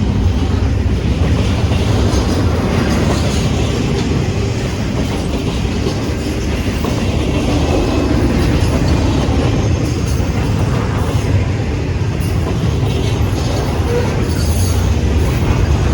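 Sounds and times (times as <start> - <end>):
freight train rumble: 0.0 - 15.9
wheels clacking over rail joints: 0.0 - 15.9.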